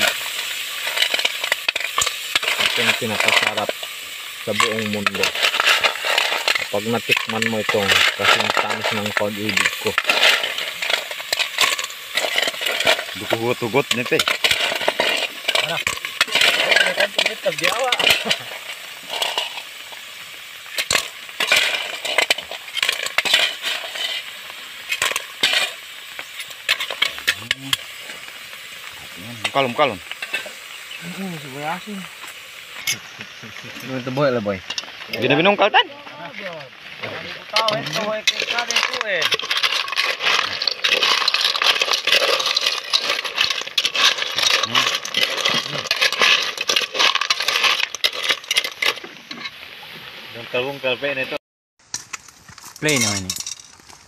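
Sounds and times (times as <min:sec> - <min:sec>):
snail shells clattering against metal: 0:00.0 - 0:32.0, 0:37.1 - 0:49.6, 0:51.9 - 0:53.9.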